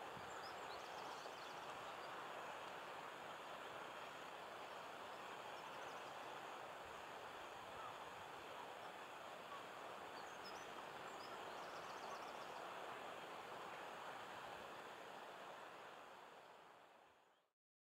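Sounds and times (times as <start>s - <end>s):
faint outdoor background noise: 0.0s - 17.5s.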